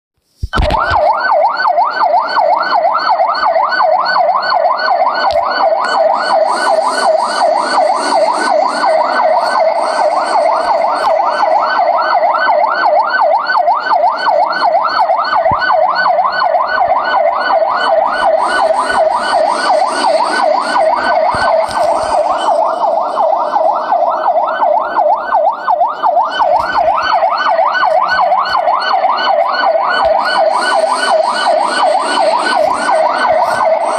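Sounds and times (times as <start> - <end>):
police siren yelping: 0.6 - 33.9.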